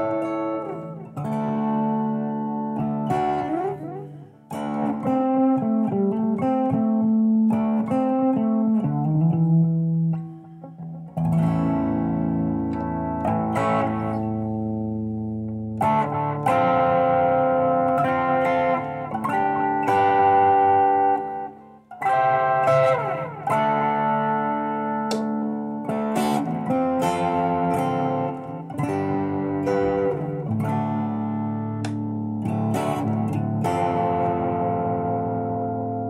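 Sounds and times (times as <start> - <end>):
electric guitar playing: 0.0 - 36.0.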